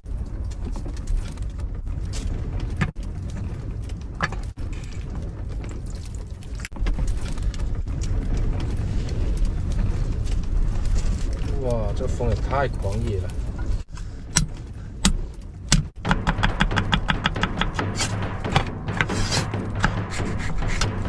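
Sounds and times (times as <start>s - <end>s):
strong wind gusting: 1.4s - 21.0s.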